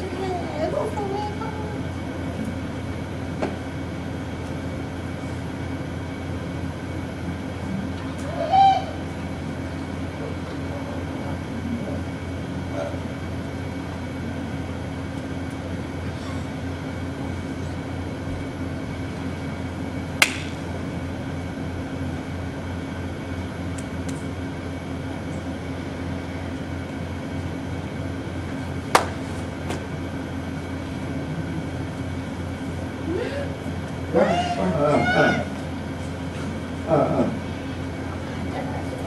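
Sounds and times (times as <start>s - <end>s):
low room hum: 0.0s - 39.0s.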